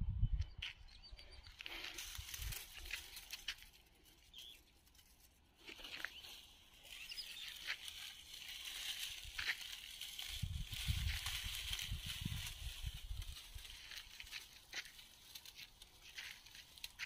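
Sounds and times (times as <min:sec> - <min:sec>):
light rustling ticks: 0:00.4 - 0:17.0.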